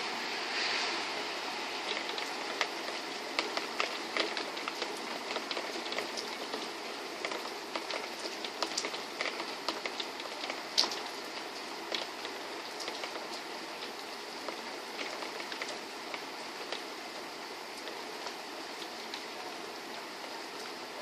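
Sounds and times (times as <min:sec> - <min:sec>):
steady rain: 0:00.0 - 0:21.0
raindrops ticking close by: 0:01.4 - 0:21.0.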